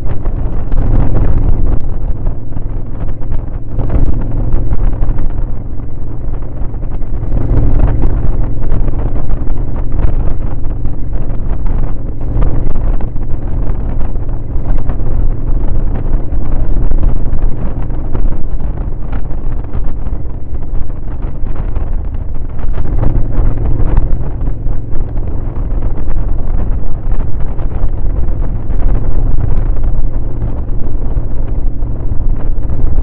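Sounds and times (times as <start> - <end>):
vehicle engine drone: 0.0 - 33.0
wind buffeting microphone: 0.0 - 33.0.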